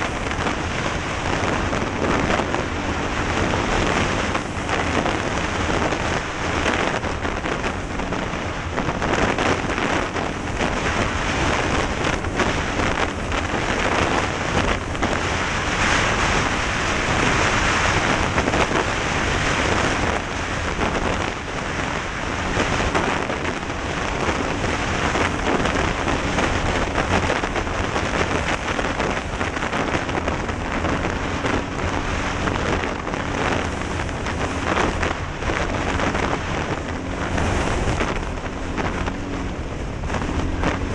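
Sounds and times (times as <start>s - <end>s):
heavy wind rush: 0.0s - 40.9s
off-road vehicle engine running: 0.0s - 40.9s.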